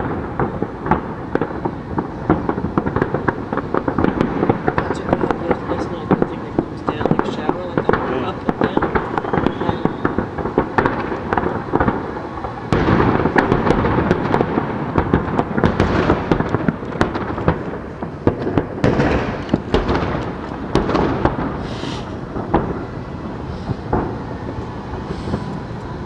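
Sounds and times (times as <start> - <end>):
continuous rumble: 0.0 - 26.0
fireworks bangs: 0.0 - 26.0.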